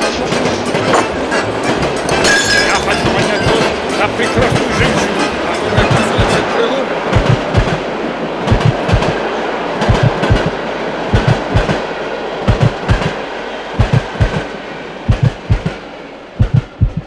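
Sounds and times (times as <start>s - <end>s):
wheels clacking over rail joints: 0.0s - 16.9s
train rumbling rush: 0.0s - 17.0s.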